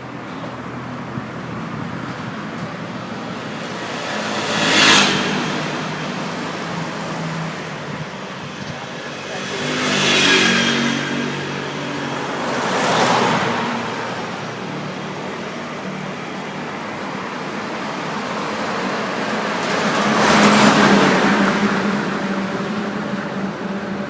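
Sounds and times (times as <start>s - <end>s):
steady engine hum: 0.0s - 24.0s
vehicles passing by: 0.0s - 24.0s.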